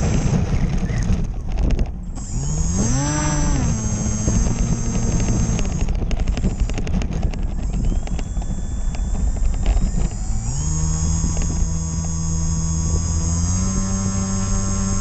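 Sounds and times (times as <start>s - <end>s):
scattered clicks: 0.0s - 14.6s
electric motor and propeller hum: 0.0s - 15.0s
wind rushing past camera: 0.0s - 15.0s.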